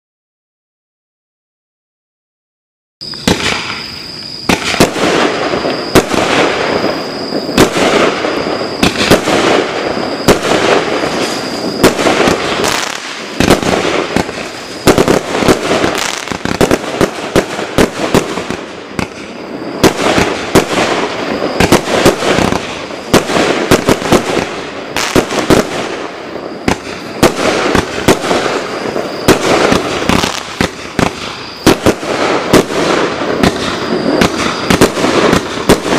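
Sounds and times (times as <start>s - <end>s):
fireworks crackling hiss: 3.0s - 35.9s
fireworks shots: 3.0s - 35.9s.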